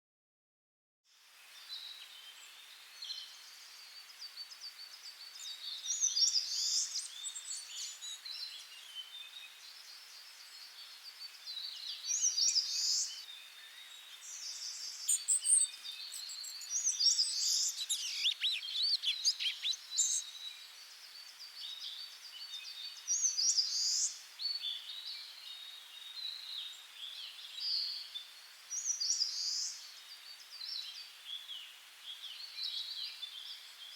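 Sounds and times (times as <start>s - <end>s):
faint steady hiss: 1.1s - 33.9s
wild birds singing and calling: 1.5s - 33.9s.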